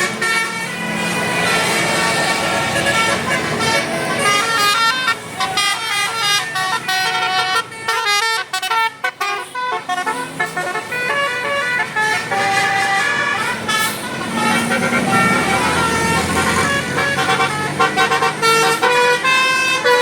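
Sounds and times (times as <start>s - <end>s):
musical air horn tune: 0.0s - 20.0s.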